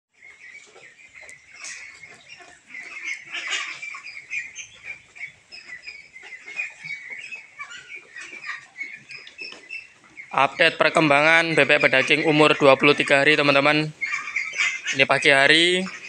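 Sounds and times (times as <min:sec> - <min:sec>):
ducklings calling: 0:00.2 - 0:16.0.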